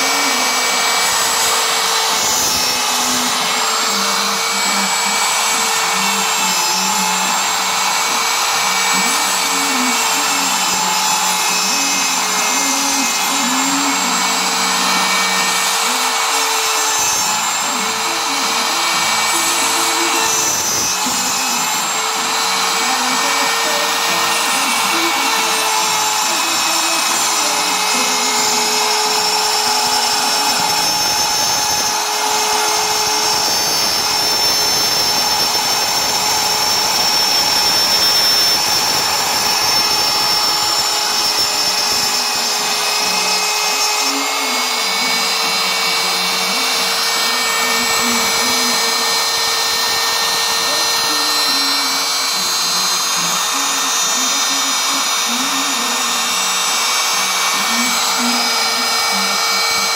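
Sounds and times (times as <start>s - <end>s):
machine motor whine: 0.0s - 59.9s.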